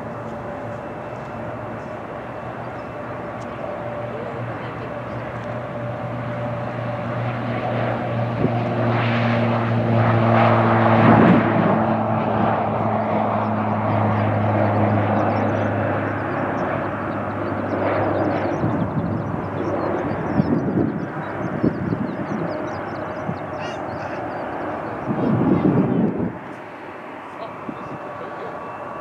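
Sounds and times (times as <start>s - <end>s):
turboprop plane taking off: 0.0s - 29.0s.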